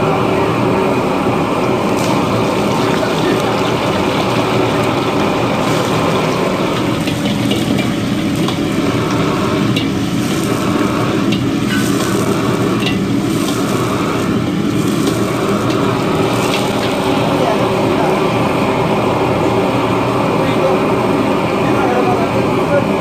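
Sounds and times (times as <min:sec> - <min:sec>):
gas burner roaring: 0:00.0 - 0:23.0
food sizzling in a wok: 0:01.7 - 0:21.7.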